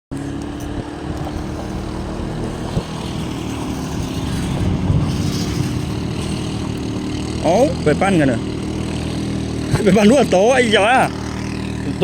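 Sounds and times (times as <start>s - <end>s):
small boat engine running: 0.1s - 12.0s.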